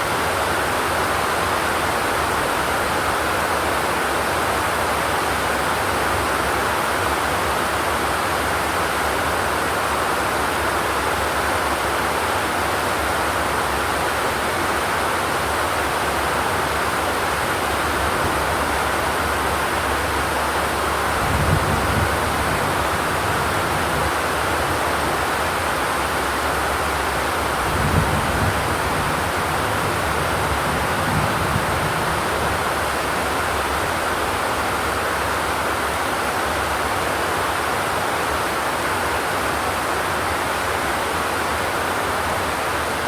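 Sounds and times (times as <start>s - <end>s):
rain on a metal roof: 0.0s - 43.0s.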